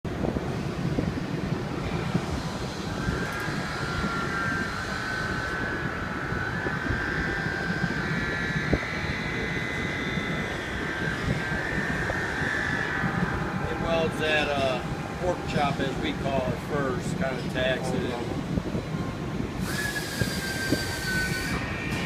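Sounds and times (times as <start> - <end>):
high whine: 0.0 - 22.0.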